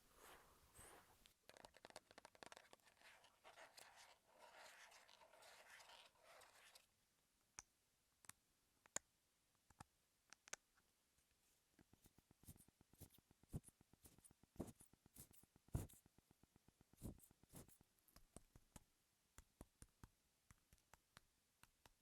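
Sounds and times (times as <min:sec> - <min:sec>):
soft crackling and scratching: 0:00.0 - 0:07.0, 0:11.3 - 0:22.0.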